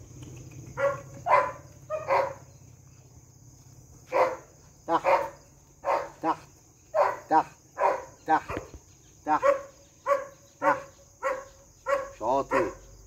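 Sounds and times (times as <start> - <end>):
crickets chirring: 0.0 - 13.0
dog barking: 0.8 - 2.5, 4.1 - 12.9.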